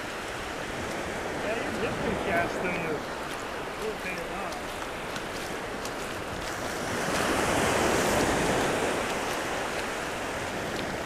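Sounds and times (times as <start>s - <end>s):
surf washing over sand: 0.0s - 11.0s.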